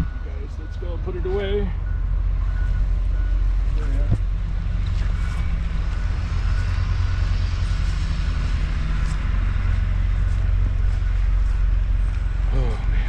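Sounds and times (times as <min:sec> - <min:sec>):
diesel truck engines idling: 0:00.0 - 0:13.0.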